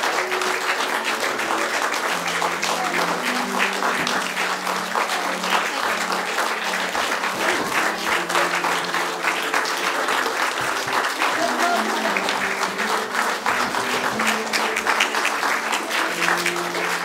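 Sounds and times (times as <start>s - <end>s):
audience clapping: 0.0s - 17.0s.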